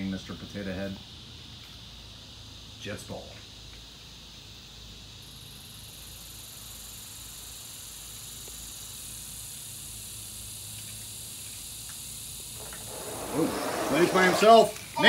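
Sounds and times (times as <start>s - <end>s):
high hiss: 0.0s - 15.0s.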